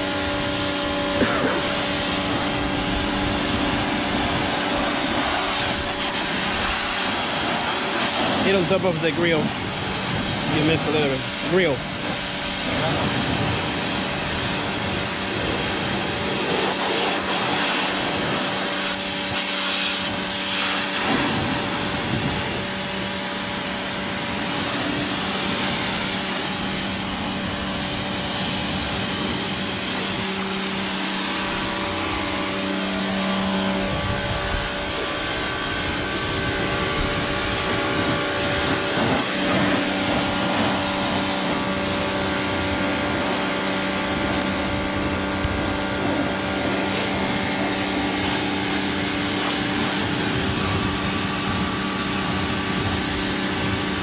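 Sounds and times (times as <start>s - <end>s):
pressure washer humming: 0.0s - 54.0s
water jet hissing: 0.0s - 54.0s.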